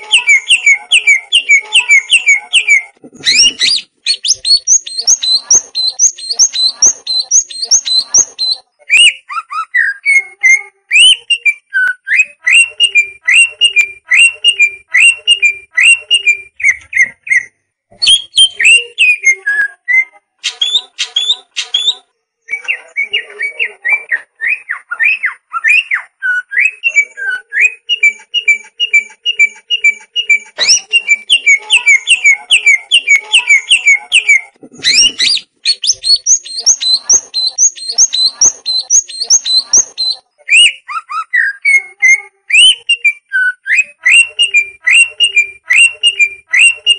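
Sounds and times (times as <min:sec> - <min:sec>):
bird singing whistled notes: 0:00.0 - 0:46.9.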